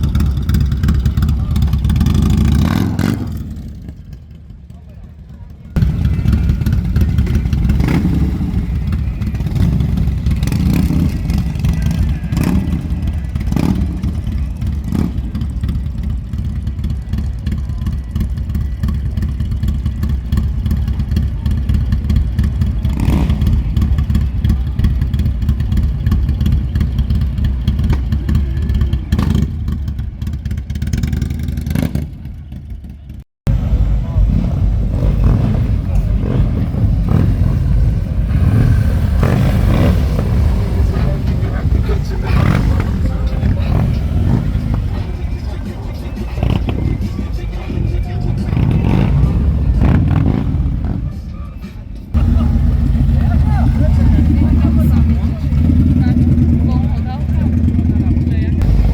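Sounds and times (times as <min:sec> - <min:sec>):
motorcycle engine rumbling: 0:00.0 - 0:58.9.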